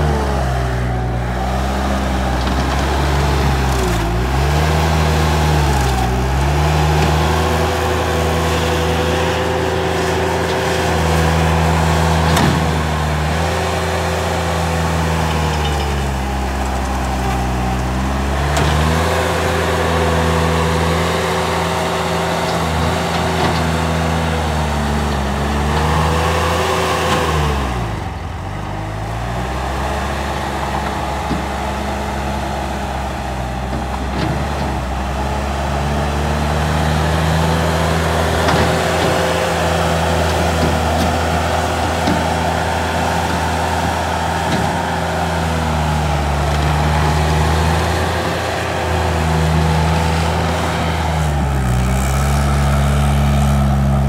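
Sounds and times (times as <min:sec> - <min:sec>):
diesel engine revving under load: 0:00.0 - 0:54.0.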